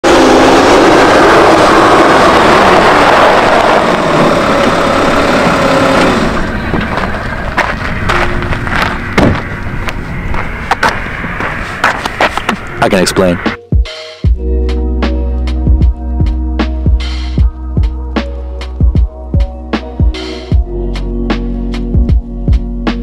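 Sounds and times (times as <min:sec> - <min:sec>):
car engine and tyre noise: 0:00.0 - 0:13.5, 0:14.3 - 0:23.0.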